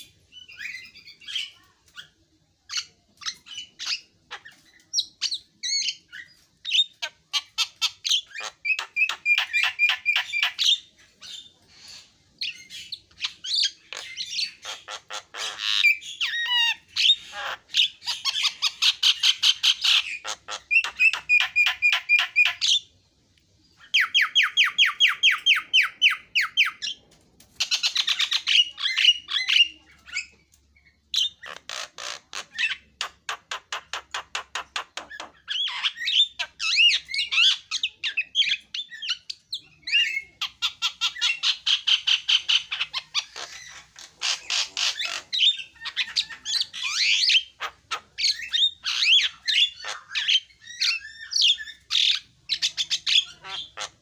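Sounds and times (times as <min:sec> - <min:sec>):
bird harsh chattering calls: 0:00.0 - 0:22.9, 0:27.6 - 0:30.4, 0:31.1 - 0:54.0.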